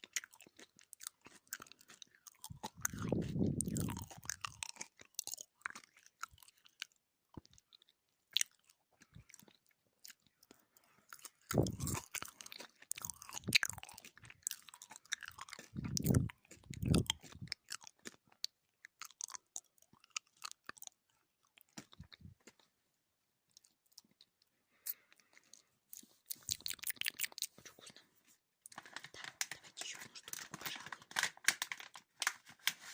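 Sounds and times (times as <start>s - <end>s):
chewing gummy candy: 0.0s - 22.8s, 23.4s - 32.7s.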